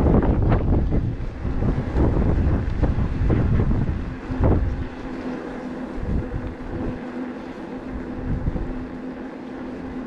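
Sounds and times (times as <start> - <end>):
faint steady hum: 0.0 - 10.0
wind buffeting the microphone: 0.0 - 10.0.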